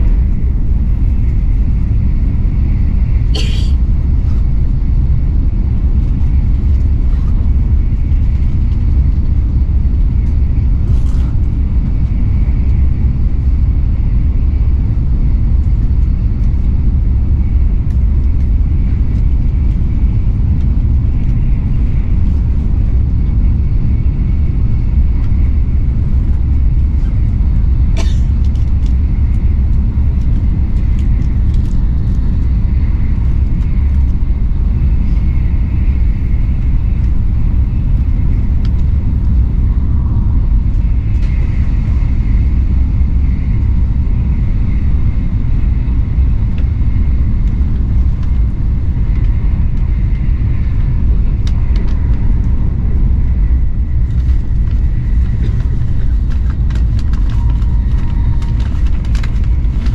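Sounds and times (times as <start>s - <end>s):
train cabin low rumble: 0.0s - 59.9s.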